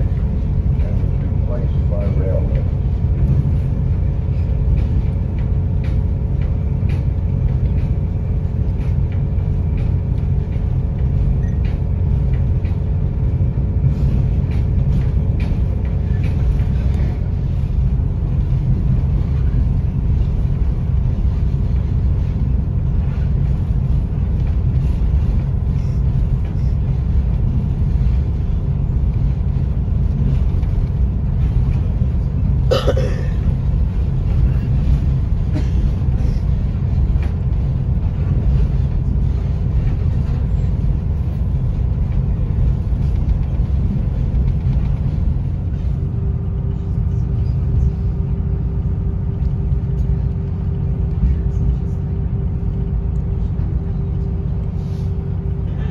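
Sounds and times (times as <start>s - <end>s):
steady hum: 0.0s - 55.9s
train coach rumbling on track: 0.0s - 55.9s.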